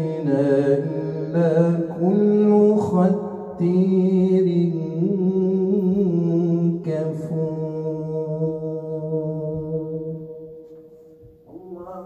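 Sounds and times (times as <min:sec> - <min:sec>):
man chanting recitation: 0:00.0 - 0:10.4.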